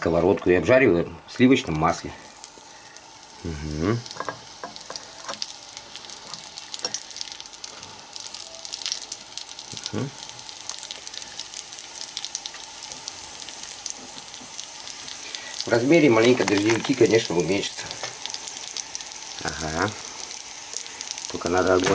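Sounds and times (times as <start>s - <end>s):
mushrooms sizzling in butter: 1.4s - 21.9s.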